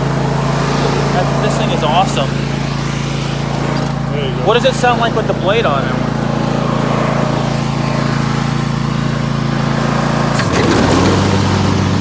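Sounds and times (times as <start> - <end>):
riding mower engine running: 0.0 - 12.0.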